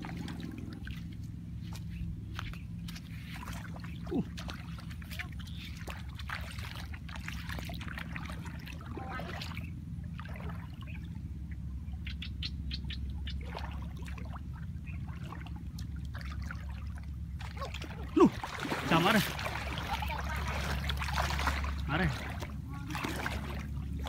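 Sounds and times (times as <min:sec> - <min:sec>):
feet sloshing through water: 0:00.0 - 0:24.0
low rumble: 0:00.0 - 0:24.0.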